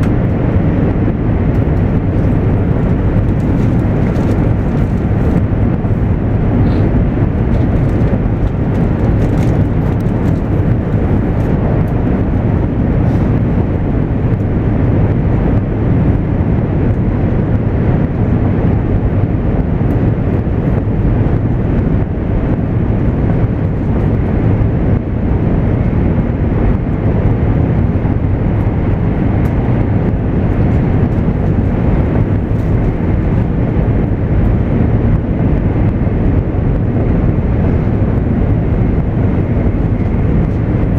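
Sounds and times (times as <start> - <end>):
train rumbling at speed: 0.0 - 40.9.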